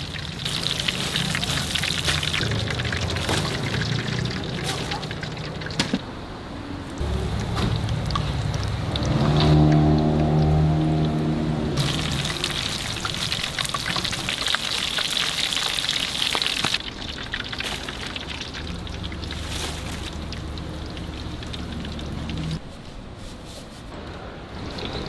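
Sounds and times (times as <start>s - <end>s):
food deep-frying in oil: 0.0s - 6.0s, 7.0s - 22.7s.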